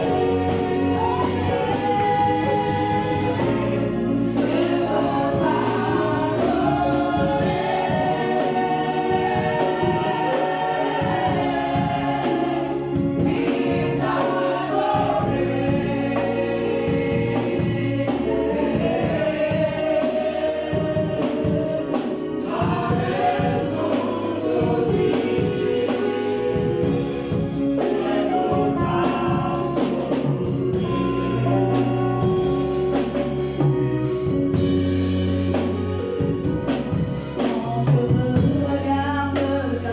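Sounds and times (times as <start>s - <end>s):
steady low beat: 0.0s - 38.8s
gospel choir singing: 0.0s - 39.9s.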